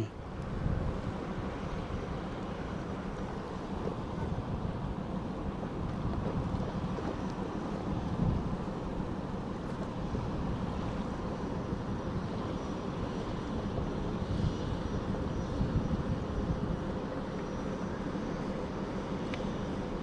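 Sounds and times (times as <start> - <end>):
barge engine droning: 0.0 - 20.0.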